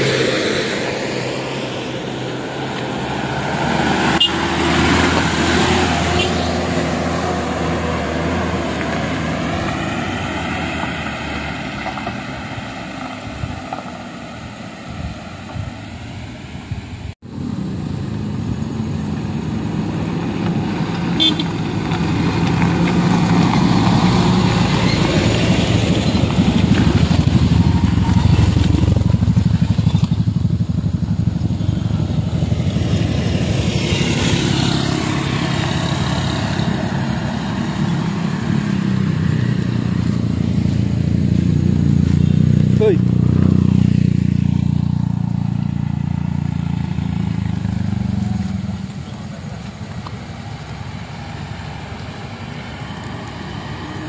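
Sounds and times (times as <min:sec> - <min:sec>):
motorcycle engines: 0:00.0 - 0:54.0
vehicle engines passing: 0:00.0 - 0:54.0.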